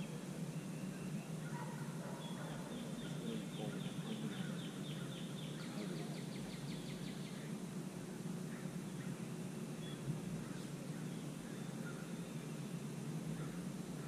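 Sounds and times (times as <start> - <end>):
faint bird chirps: 0.0 - 7.7, 8.3 - 14.0
low background noise: 0.0 - 14.0
songbird trill: 0.0 - 14.0.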